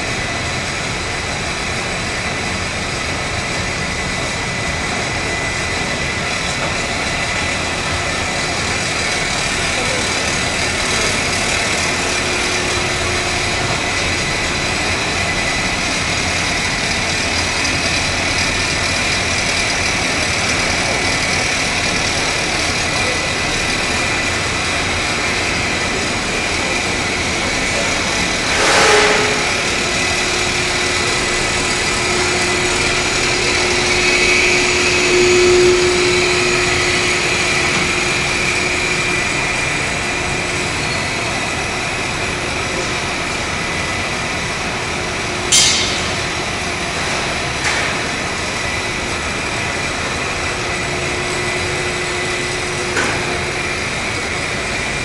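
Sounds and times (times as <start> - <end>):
fabric machine drone and whine: 0.0 - 55.0
low machine hum: 0.0 - 55.0.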